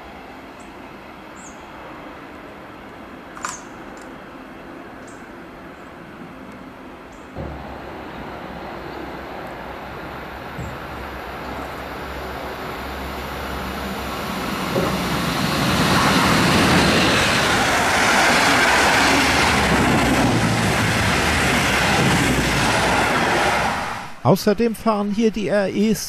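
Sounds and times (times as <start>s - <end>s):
train wheels rushing on track: 0.0s - 24.2s.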